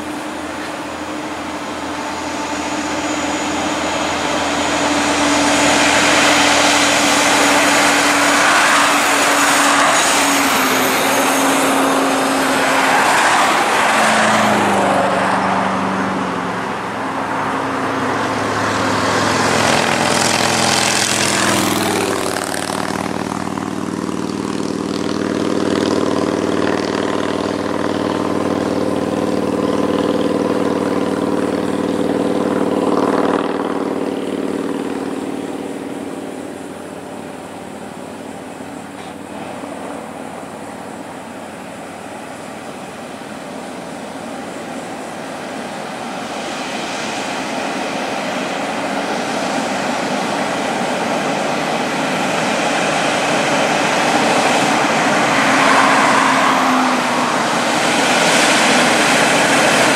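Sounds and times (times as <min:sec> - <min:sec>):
diesel truck engines droning: 0:00.0 - 0:59.9
highway traffic passing: 0:00.0 - 0:59.9
motorcycle rushing past: 0:00.0 - 0:59.9.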